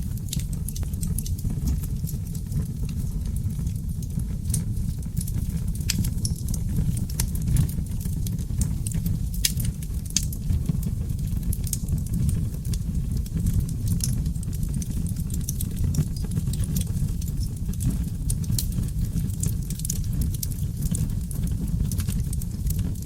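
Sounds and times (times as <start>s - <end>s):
fire rumbling: 0.0s - 23.0s
wood crackling and popping: 0.0s - 23.0s.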